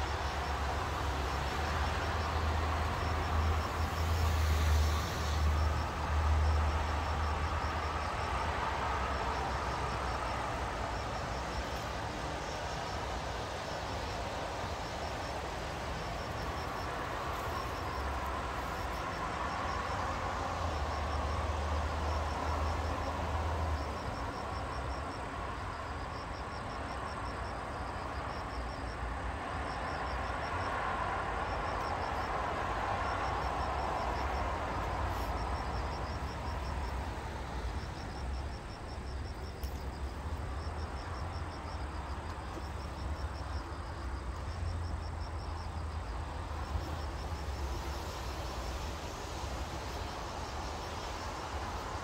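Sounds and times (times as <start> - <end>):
crickets chirping: 0.0 - 52.0
distant traffic rumble: 0.0 - 52.0.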